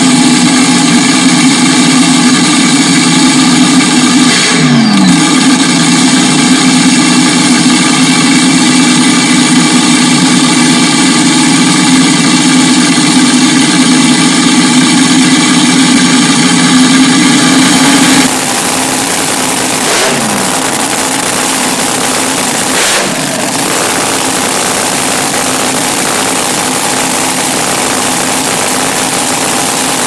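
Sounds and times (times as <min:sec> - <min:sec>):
racing car engine droning: 0:00.0 - 0:30.0.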